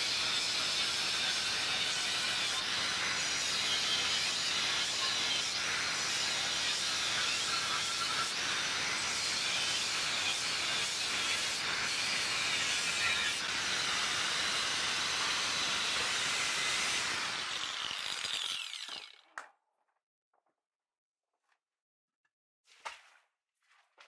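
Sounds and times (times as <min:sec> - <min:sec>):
power tool grinding steel: 0:00.0 - 0:19.3.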